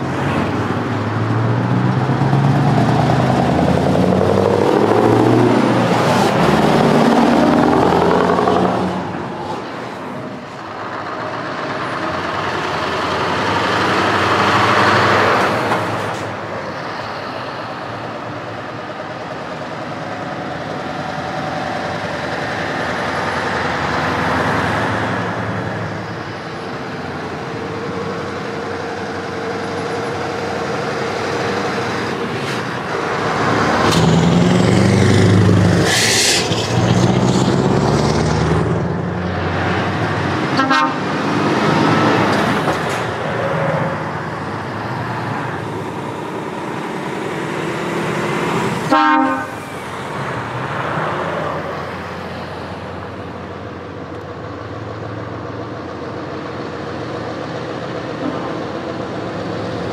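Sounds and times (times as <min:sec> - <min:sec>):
quieter traffic: 0:00.0 - 0:59.9
truck accelerating hard: 0:00.0 - 0:59.9
trucks driving past: 0:00.0 - 0:59.9.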